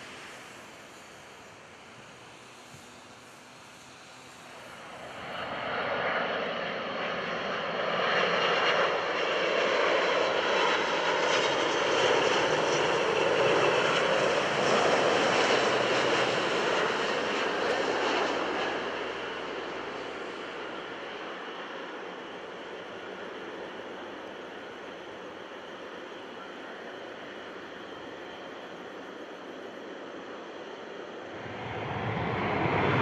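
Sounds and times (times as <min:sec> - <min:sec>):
jet airliner engine noise: 0:00.0 - 0:33.0.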